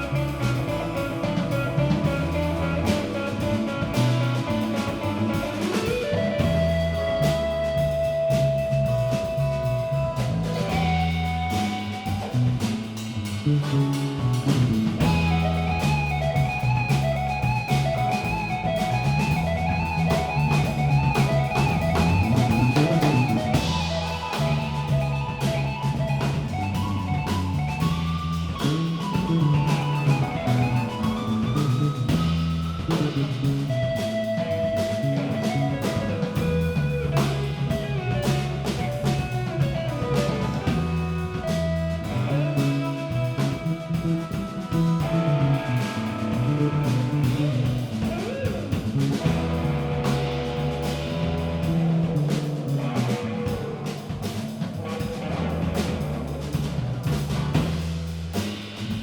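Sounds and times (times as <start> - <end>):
bass line: 0.0 - 59.0
drum kit steady beat: 0.0 - 59.0
guitar melody with bent notes: 0.0 - 59.0.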